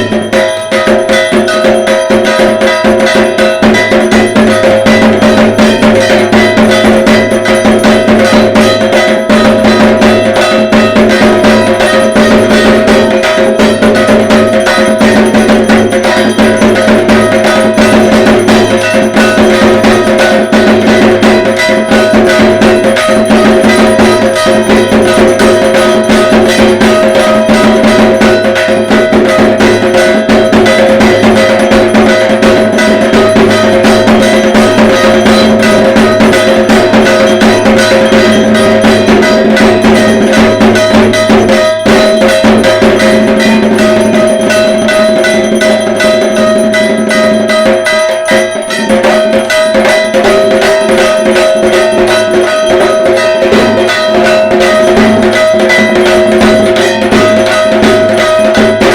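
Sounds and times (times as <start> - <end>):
barrel drum beaten fast: 0.0 - 58.9
metallic ringing: 0.0 - 58.9.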